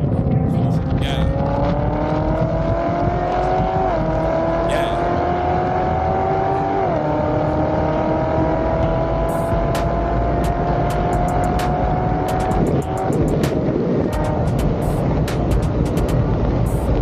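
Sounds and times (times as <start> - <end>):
car engine accelerating: 0.0 - 17.0
wind and road noise: 0.0 - 17.0.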